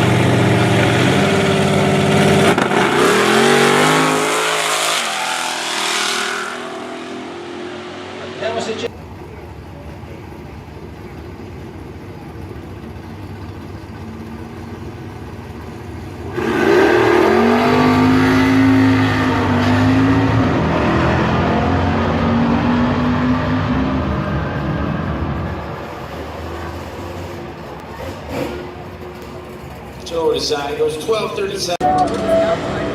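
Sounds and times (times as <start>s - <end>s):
muscle car engines revving: 0.0s - 32.9s.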